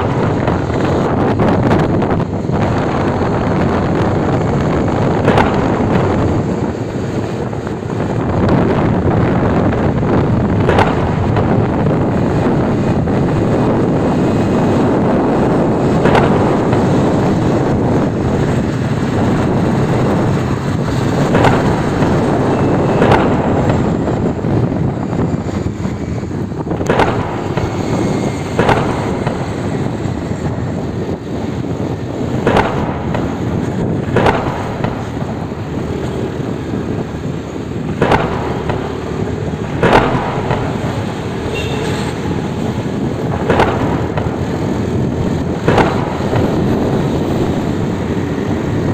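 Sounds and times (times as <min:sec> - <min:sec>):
motorbike engine and road noise: 0:00.0 - 0:48.9
wind buffeting microphone: 0:00.0 - 0:48.9.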